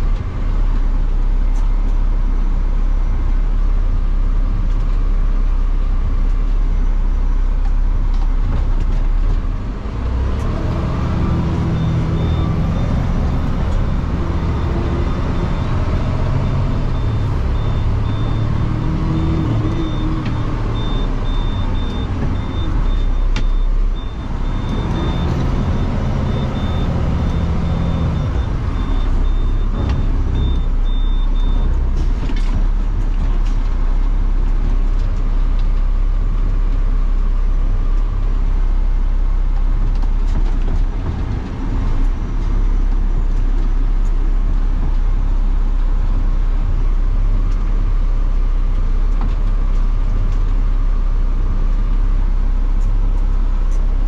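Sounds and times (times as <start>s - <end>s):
garbage truck engine running: 0.0s - 54.0s.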